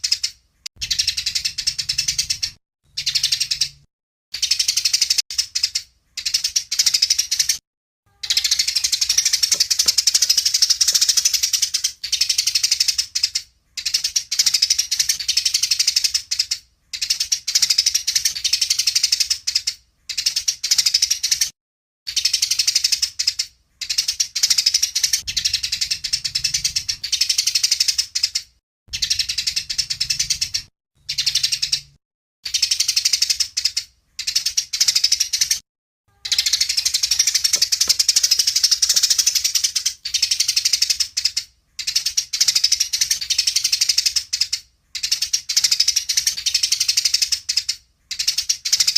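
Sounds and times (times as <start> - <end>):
songbird trilling: 0.0 - 20.8, 22.1 - 28.4, 29.0 - 48.9.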